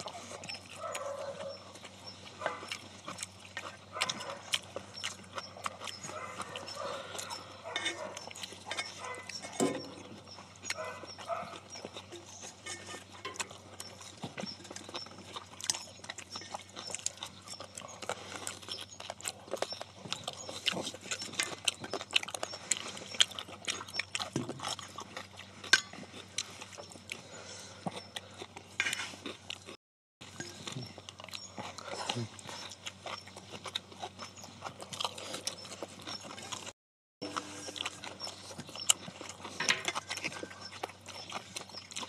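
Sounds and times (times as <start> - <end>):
people chewing and lip-smacking: 0.0 - 42.0.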